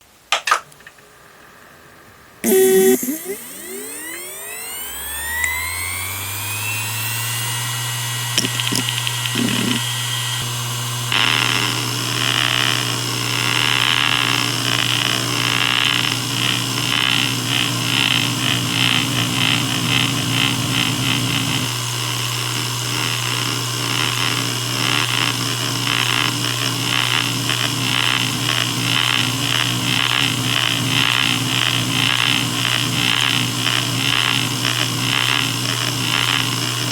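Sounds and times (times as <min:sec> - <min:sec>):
hard drive motor hum: 0:02.4 - 0:36.9.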